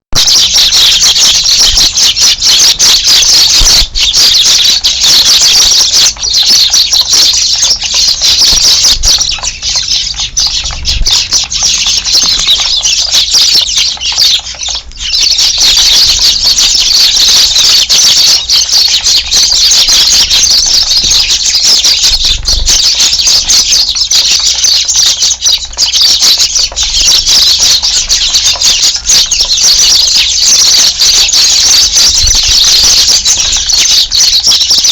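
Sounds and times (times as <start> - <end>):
sparrows chirping: 0.2 - 34.9.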